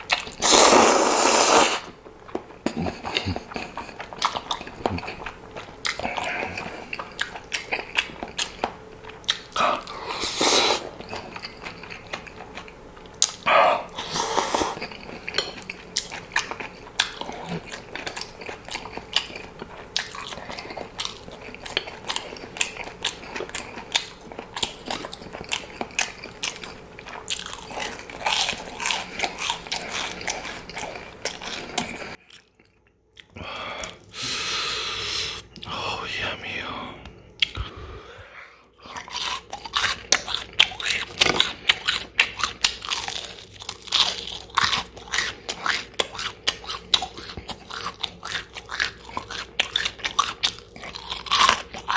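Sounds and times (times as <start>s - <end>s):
wet chewing and biting: 0.0s - 34.0s, 38.8s - 51.9s.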